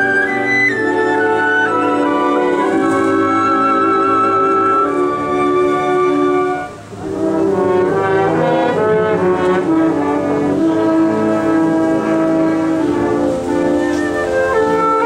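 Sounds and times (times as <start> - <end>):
flute line: 0.0 - 15.0
wind ensemble playing chords: 0.0 - 15.0.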